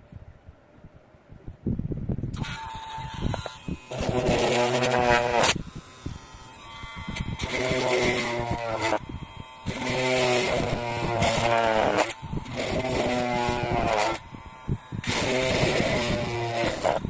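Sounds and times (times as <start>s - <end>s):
mini grinder whining: 2.3s - 17.0s.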